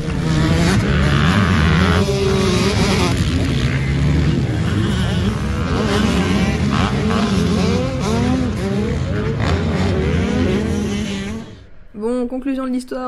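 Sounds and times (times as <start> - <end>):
motocross bike engines revving: 0.0 - 11.9.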